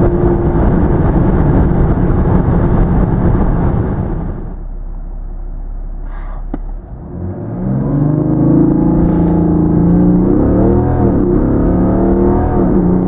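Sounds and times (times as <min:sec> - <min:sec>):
diesel engine accelerating: 0:00.0 - 0:13.0
low road rumble: 0:00.0 - 0:13.0.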